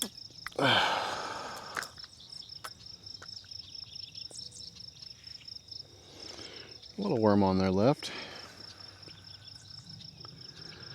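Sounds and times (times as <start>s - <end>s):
crickets trilling: 0.0s - 10.9s.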